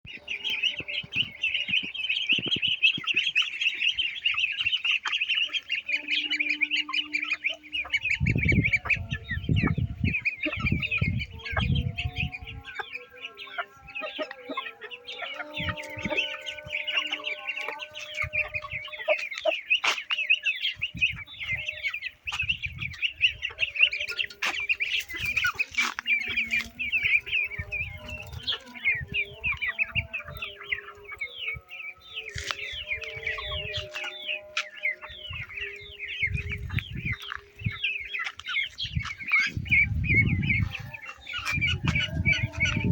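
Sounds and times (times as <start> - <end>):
chickens clucking: 0.0 - 42.9
high-pitched chirping: 0.0 - 42.9.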